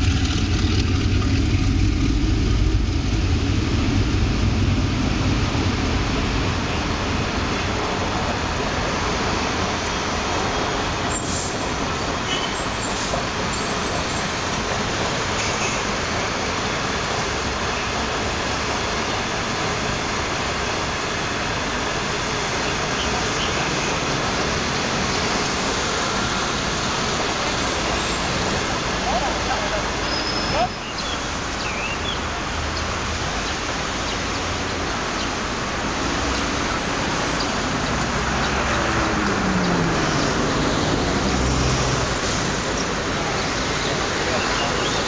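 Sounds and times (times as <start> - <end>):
train rolling past: 0.0 - 45.0.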